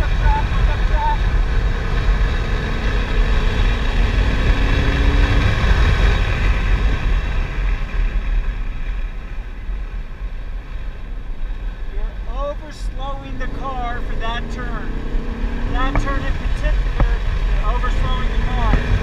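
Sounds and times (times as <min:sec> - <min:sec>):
car engine running hard: 0:00.0 - 0:19.0
wind and tyre noise: 0:00.0 - 0:19.0.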